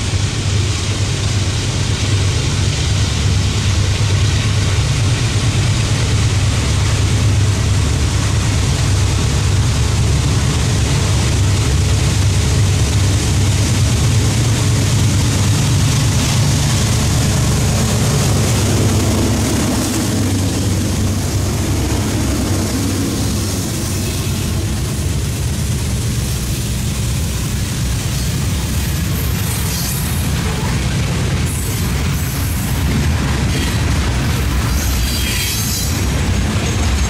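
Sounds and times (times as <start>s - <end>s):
diesel locomotive engines: 0.0s - 37.0s
freight cars rumbling over rails: 0.0s - 37.0s.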